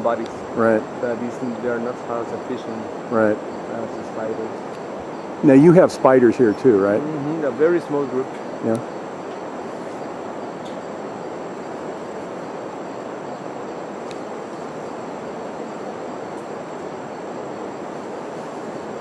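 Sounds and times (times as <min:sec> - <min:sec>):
faint high-pitched whine: 0:00.0 - 0:19.0
rushing outdoor background noise: 0:00.0 - 0:19.0.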